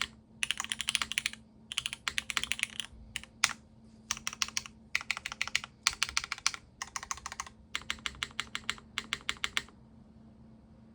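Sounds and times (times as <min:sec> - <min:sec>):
mechanical keyboard typing: 0:00.0 - 0:09.7.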